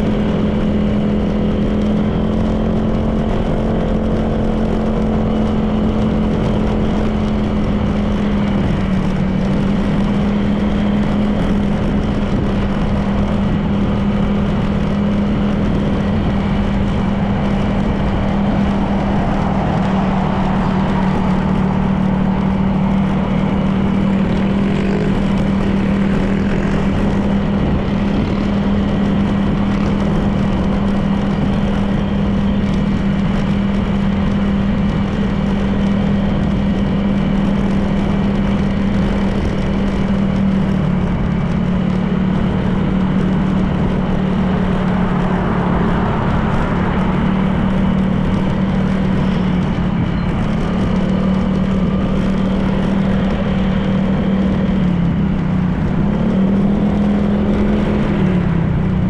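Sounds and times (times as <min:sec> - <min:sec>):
scooter engine droning: 0:00.0 - 0:59.0
wind and road noise: 0:00.0 - 0:59.0.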